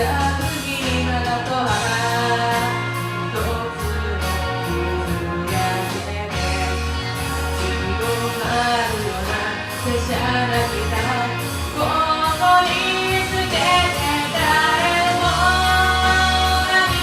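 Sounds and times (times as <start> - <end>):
bass line: 0.0 - 17.0
pop song with solo vocal: 0.0 - 17.0.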